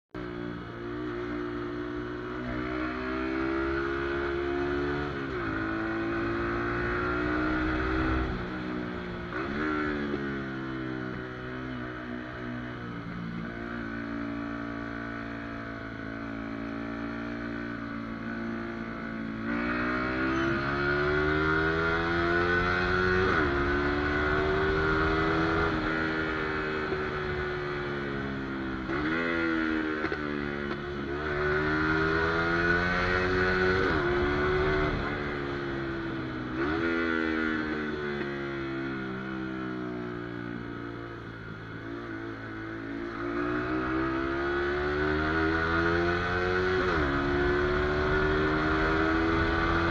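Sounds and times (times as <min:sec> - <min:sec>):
motorcycle engine idling and revving: 0:00.1 - 0:49.9.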